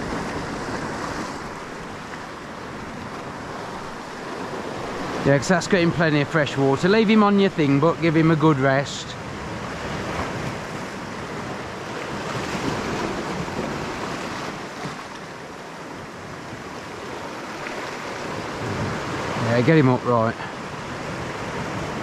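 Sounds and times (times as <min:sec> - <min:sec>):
sea waves washing over rocks: 0:00.0 - 0:22.0.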